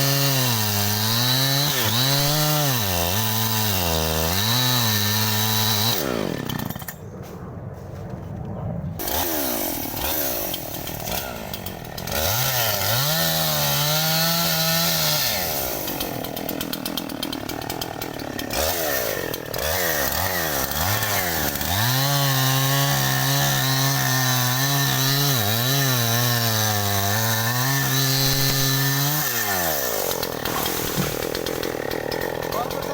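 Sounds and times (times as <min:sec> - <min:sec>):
chainsaw revving: 0:00.0 - 0:07.0, 0:09.0 - 0:32.9.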